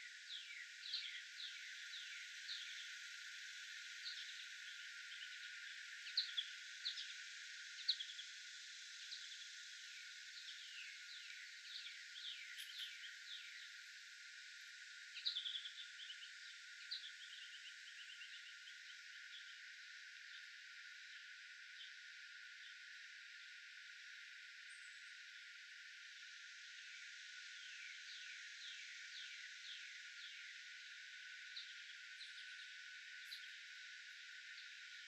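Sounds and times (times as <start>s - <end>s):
background hiss: 0.0s - 35.0s
songbirds chirping: 0.0s - 35.0s.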